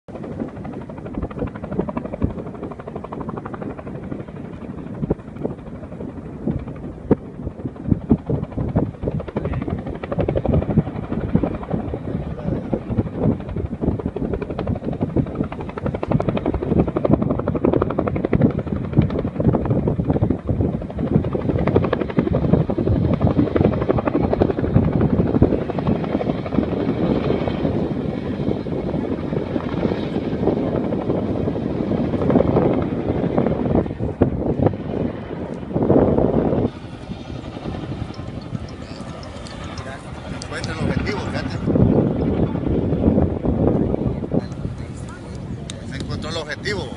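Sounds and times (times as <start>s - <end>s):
helicopter rotor chopping: 0.1s - 46.9s.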